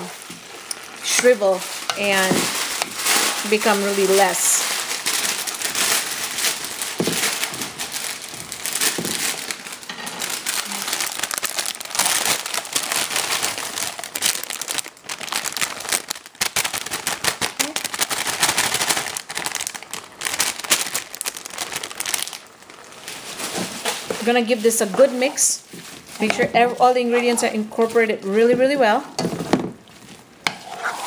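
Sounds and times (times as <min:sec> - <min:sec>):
plastic bag crinkling: 0:00.0 - 0:30.5
food frying in oil: 0:00.0 - 0:31.0.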